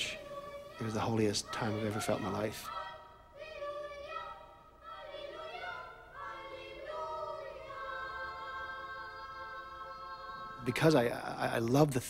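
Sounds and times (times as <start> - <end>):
choir singing held notes: 0.0 - 11.8.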